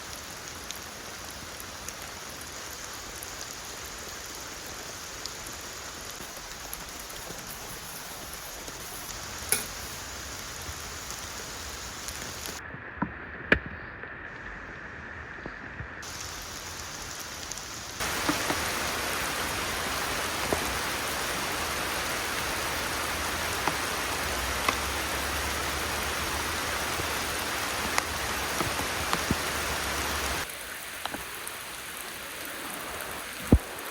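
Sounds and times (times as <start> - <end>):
steady rain falling: 0.0 - 12.6, 14.3 - 33.9
louder raindrops: 0.0 - 13.0, 14.3 - 33.9.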